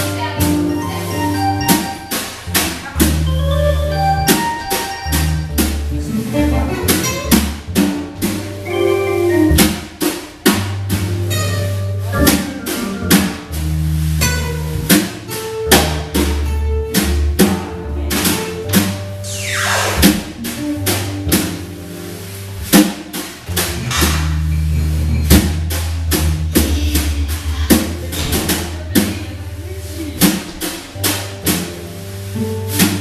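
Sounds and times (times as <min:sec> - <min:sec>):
jazz band playing dance music: 0:00.0 - 0:33.0
walking bass line: 0:00.0 - 0:33.0
drum kit snare hits: 0:00.4 - 0:03.5, 0:04.2 - 0:06.1, 0:06.8 - 0:08.8, 0:09.4 - 0:21.8, 0:22.5 - 0:24.7, 0:25.3 - 0:29.3, 0:30.2 - 0:31.9, 0:32.7 - 0:33.0.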